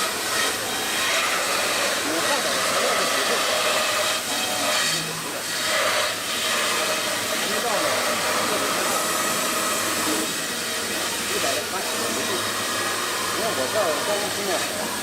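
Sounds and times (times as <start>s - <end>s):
router spindle running: 0.0s - 15.0s.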